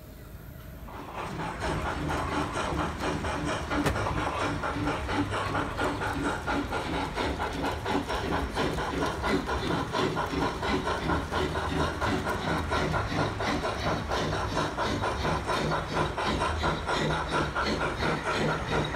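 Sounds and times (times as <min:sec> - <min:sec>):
model train clattering: 0:00.6 - 0:18.9.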